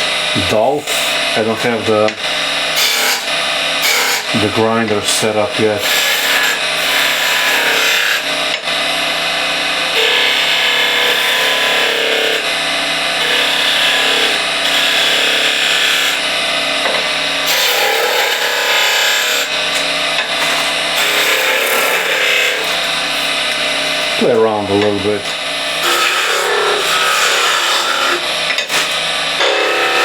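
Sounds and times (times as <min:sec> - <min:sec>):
lathe tool scraping wood: 0:00.0 - 0:09.0, 0:09.8 - 0:16.5, 0:17.2 - 0:30.0.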